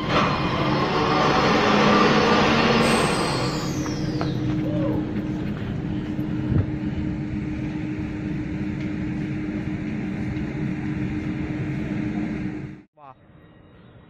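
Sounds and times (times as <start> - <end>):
electric train equipment humming: 0.0 - 14.0.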